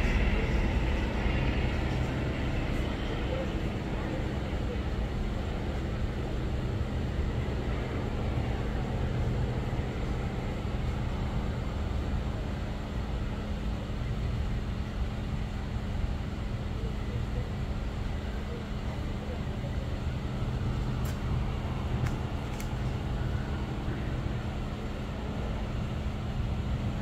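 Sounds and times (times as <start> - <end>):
street noise: 0.0 - 27.0
vehicle engines idling: 0.0 - 27.0.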